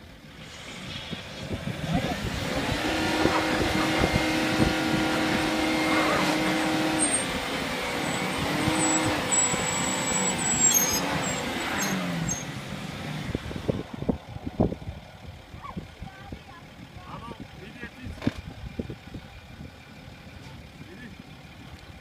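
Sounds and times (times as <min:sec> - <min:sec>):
engine running hard under load: 0:01.4 - 0:22.0.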